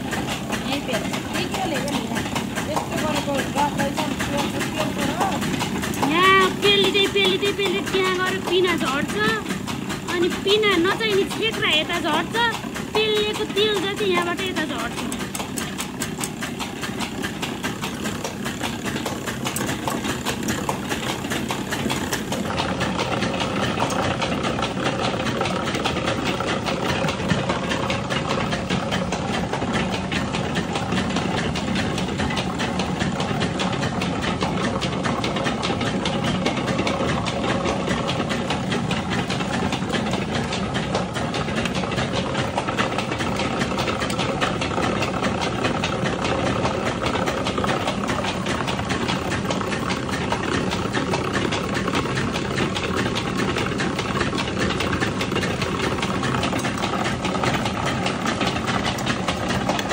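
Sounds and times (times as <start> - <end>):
oil press machine droning: 0.0 - 59.9.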